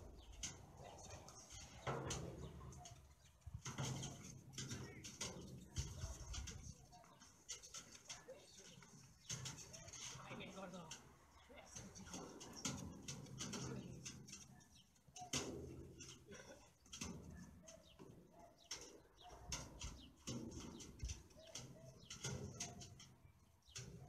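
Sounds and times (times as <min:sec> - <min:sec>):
footsteps on sheet metal: 0:00.0 - 0:24.0.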